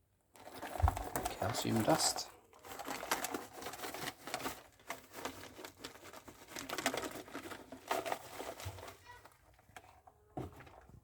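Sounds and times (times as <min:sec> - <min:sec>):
plastic crinkling and rustling: 0:00.2 - 0:11.0.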